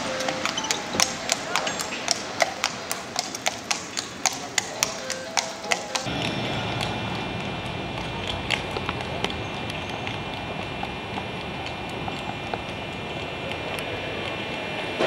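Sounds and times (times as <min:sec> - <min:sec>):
horse hooves clopping on pavement: 0:00.0 - 0:15.0
steady street hum: 0:00.0 - 0:15.0.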